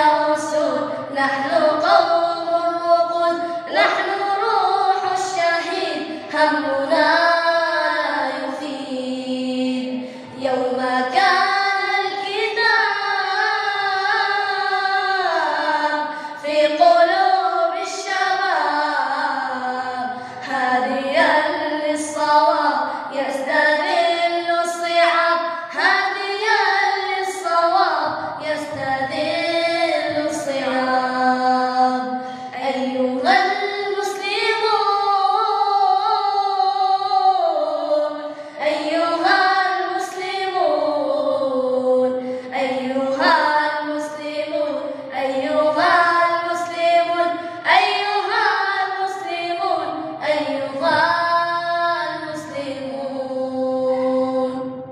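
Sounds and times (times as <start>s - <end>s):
high voice singing unaccompanied: 0.0s - 54.9s.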